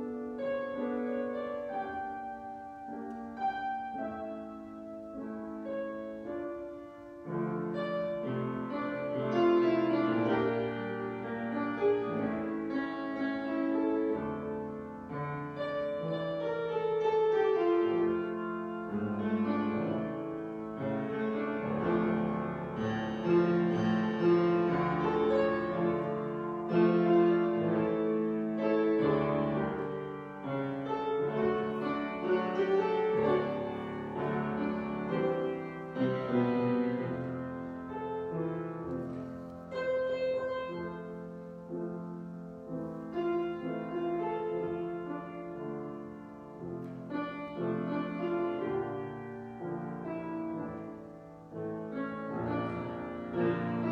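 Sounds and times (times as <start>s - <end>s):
slow keyboard music: 0.0s - 53.9s.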